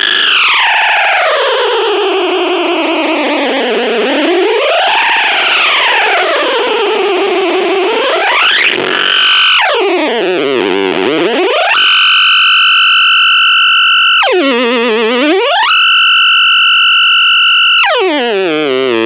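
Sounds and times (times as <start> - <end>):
delay pedal feedback tone: 0.0 - 19.0.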